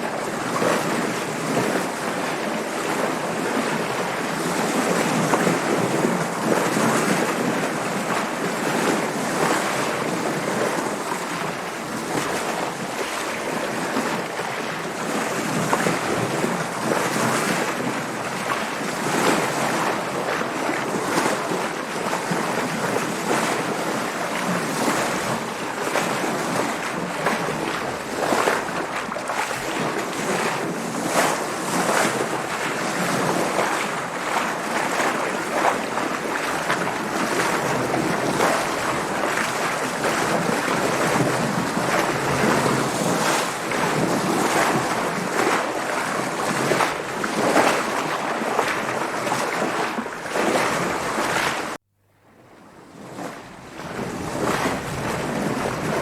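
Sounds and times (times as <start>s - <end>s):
water splashing around boat: 0.0s - 51.8s, 52.6s - 56.0s
wind: 0.0s - 56.0s.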